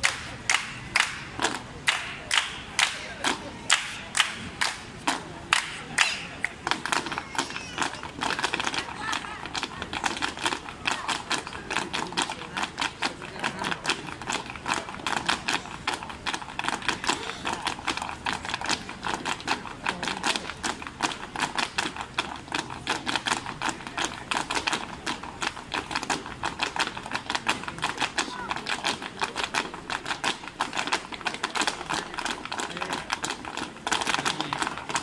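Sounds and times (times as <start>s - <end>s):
heeled shoes tapping on pavement: 0.0s - 35.0s.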